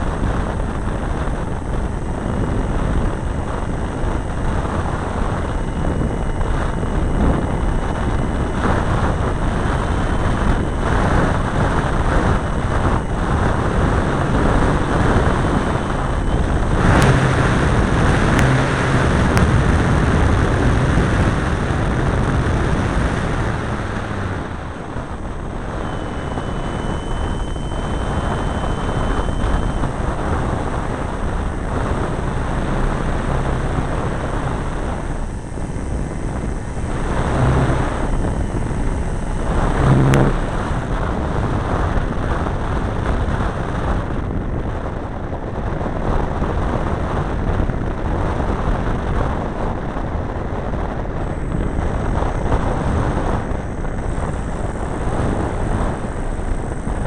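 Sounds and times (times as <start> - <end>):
model airplane engine and propeller: 0.0 - 57.0
wind rushing over microphone: 0.0 - 57.0.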